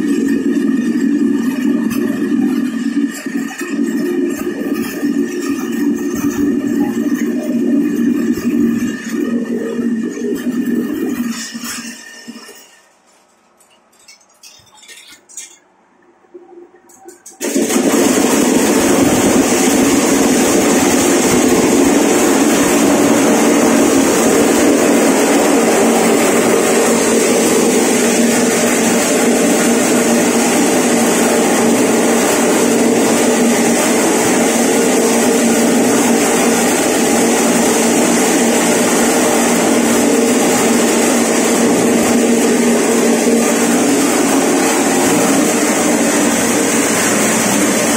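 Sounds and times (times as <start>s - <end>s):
electric maize sheller running: 0.0s - 13.0s, 16.9s - 47.9s.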